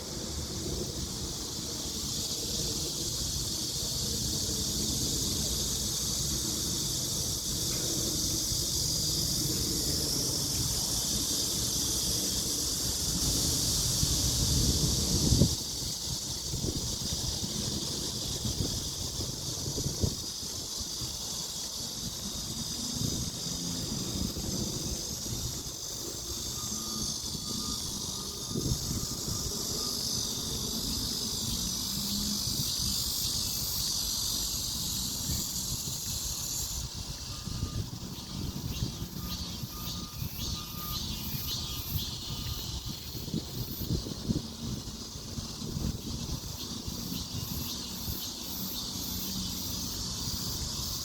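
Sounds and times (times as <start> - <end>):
wind rumbling on microphone: 0.0 - 48.8
high insect chorus: 0.0 - 51.0
pulsing insect call: 0.0 - 51.0.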